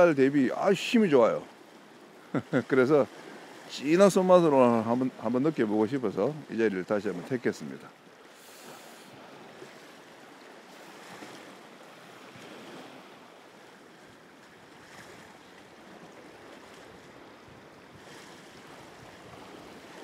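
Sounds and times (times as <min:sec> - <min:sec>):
faint surf washing on shore: 0:00.0 - 0:20.0.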